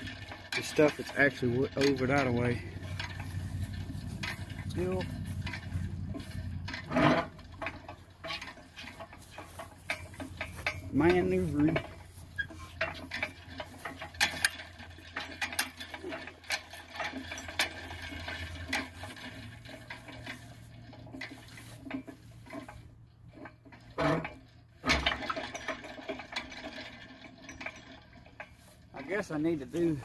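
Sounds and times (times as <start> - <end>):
loud metal clatters: 0.0 - 30.0
metallic clinks and rattles: 0.0 - 30.0.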